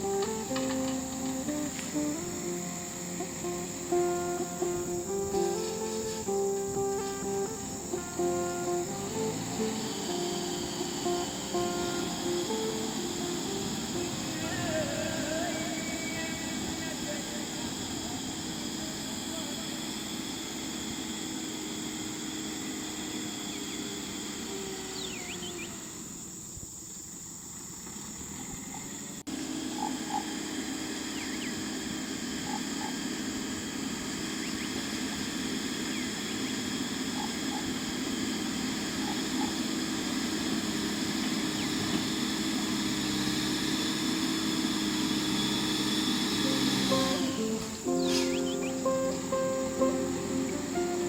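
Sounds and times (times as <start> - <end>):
diesel engine running: 0.0 - 51.0
insects droning: 0.0 - 51.0.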